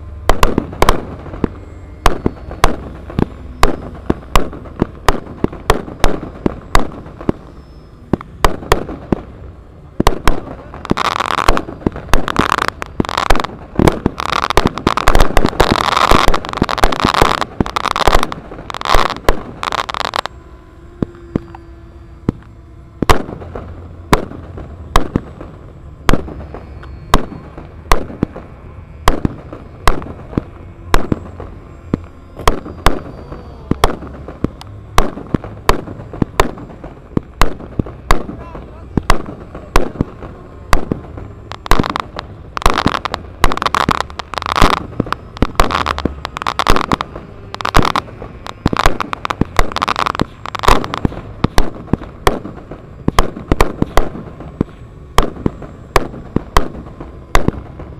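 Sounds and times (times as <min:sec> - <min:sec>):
crackling barrage: 0:00.0 - 0:57.9
faint model aircraft engines droning: 0:00.0 - 0:57.9
pyrotechnic bangs: 0:00.0 - 0:57.9.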